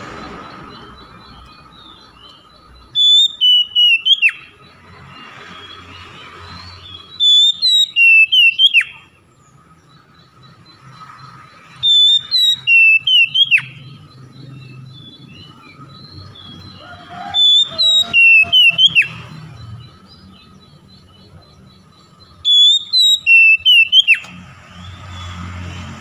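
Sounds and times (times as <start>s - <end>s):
bird whistled song: 0.0s - 25.4s.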